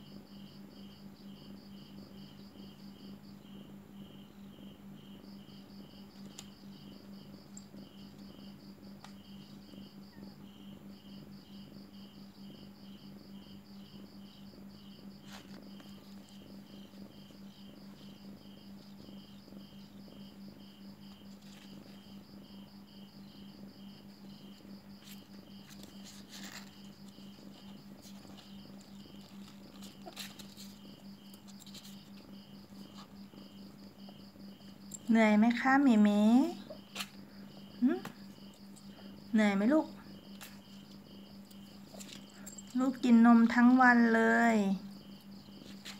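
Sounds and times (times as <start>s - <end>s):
cricket chirping: 0.0s - 45.9s
faint low hum: 0.0s - 45.9s.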